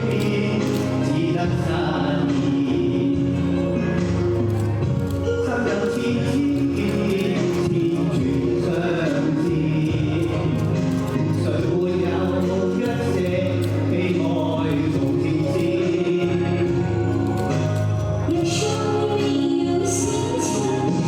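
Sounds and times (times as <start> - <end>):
song with instrumental accompaniment: 0.0 - 21.0.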